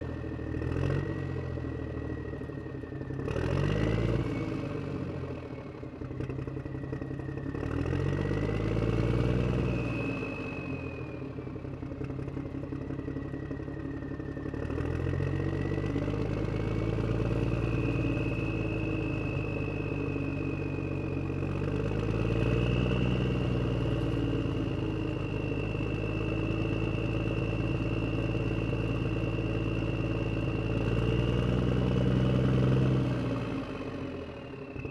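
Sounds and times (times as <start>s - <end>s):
clatter: 5.6s - 34.9s.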